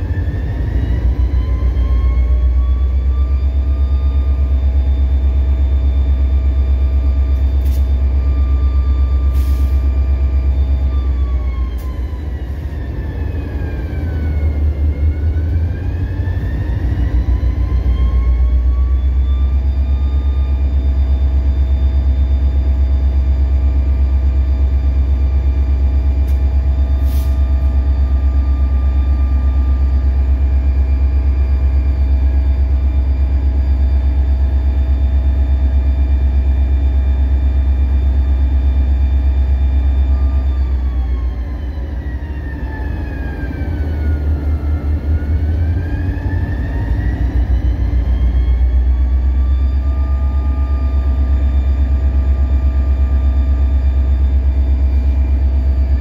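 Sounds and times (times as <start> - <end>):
engine whine: 0.0 - 56.0
locomotive engine rumble: 0.0 - 56.0.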